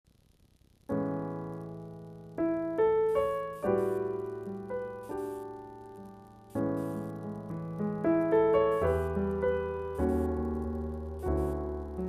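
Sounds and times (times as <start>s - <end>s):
slow jazz piano: 0.9s - 12.0s.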